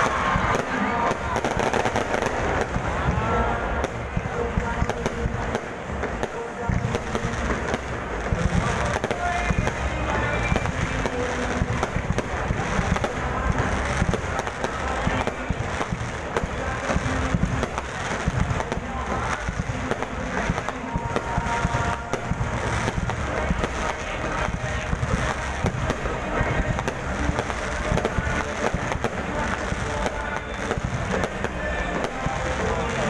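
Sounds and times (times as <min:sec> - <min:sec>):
fireworks booming: 0:00.0 - 0:33.0
fireworks crackling: 0:00.0 - 0:33.0.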